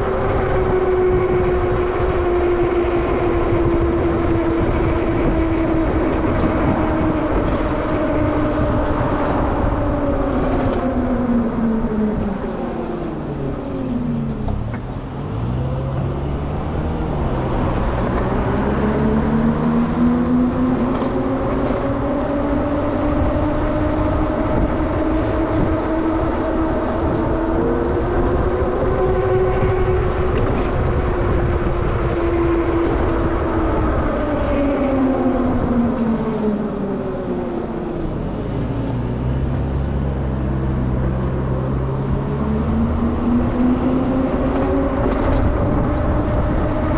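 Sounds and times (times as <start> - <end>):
wind rumble: 0.0 - 46.9.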